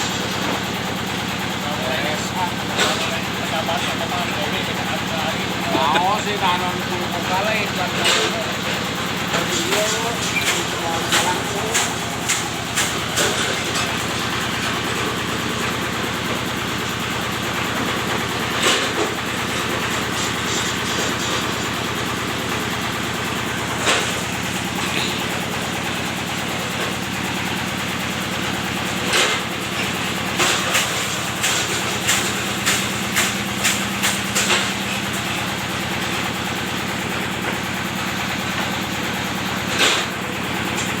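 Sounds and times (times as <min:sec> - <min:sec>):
machine engine running: 0:00.0 - 0:41.0.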